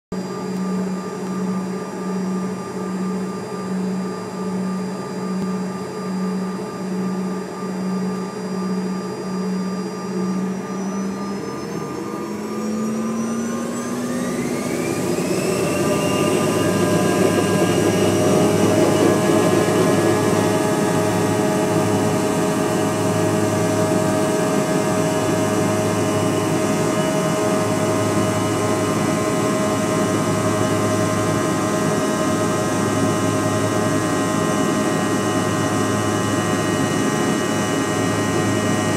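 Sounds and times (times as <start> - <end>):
jet engine whine spooling up: 0.2 - 38.9
jet engines idling hum: 0.2 - 38.9.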